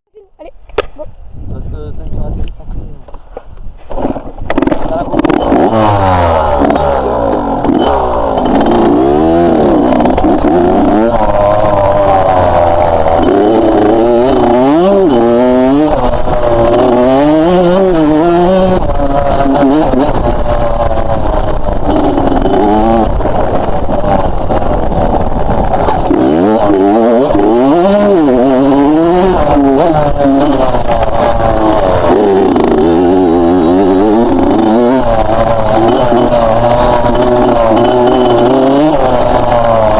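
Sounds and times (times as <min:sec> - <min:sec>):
two-stroke motorbike engine revving: 0:03.9 - 0:39.9.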